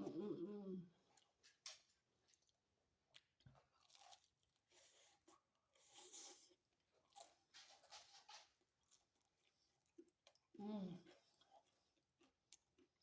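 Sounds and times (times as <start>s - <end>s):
person chewing food: 1.0s - 13.0s.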